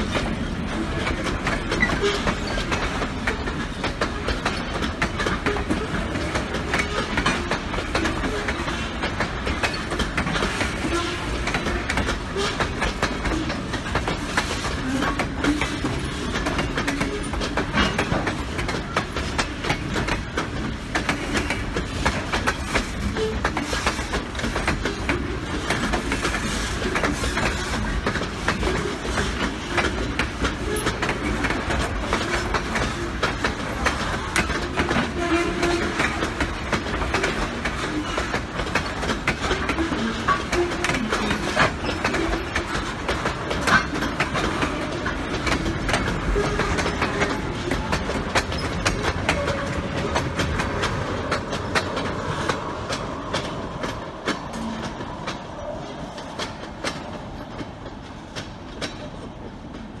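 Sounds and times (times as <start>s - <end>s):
freight train rolling past: 0.0s - 60.0s
wheels clicking over rail joints: 0.0s - 60.0s.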